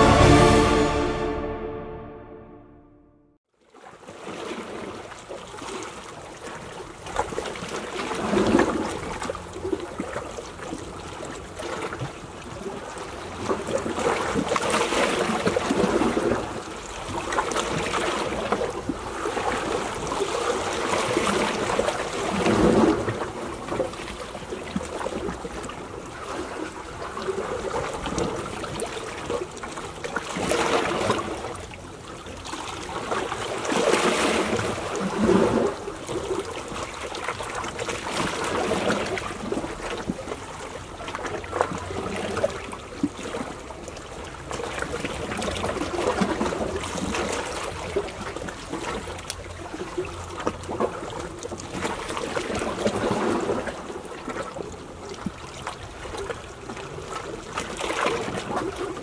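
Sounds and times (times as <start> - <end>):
waves lapping against rocks: 3.8 - 59.0.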